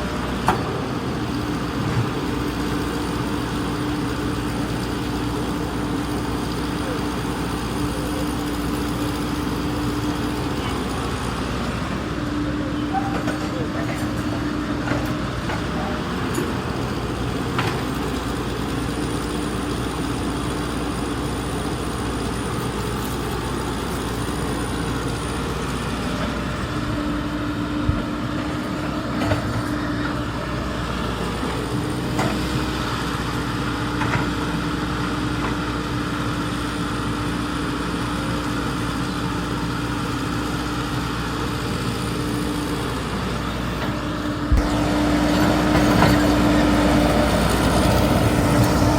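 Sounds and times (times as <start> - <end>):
excavator running: 0.0 - 48.9.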